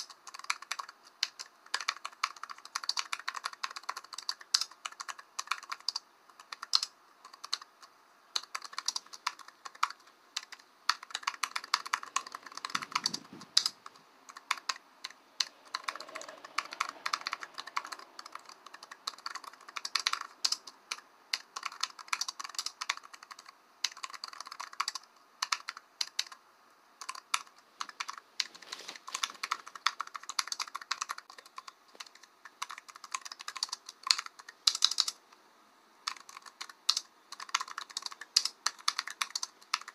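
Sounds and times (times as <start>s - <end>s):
computer keyboard typing: 0.0s - 26.4s, 27.0s - 35.2s, 36.0s - 39.9s.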